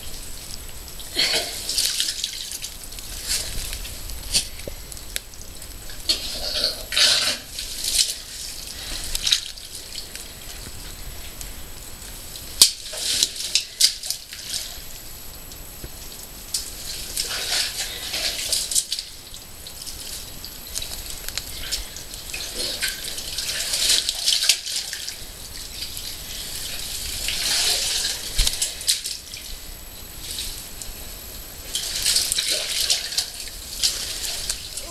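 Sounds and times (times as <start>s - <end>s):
water dripping and splashing: 0.0s - 34.9s.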